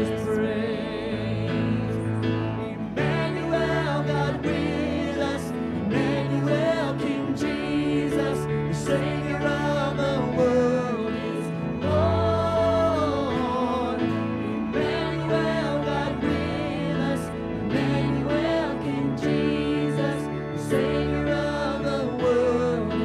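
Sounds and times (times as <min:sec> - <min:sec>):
people singing: 0:00.0 - 0:23.0.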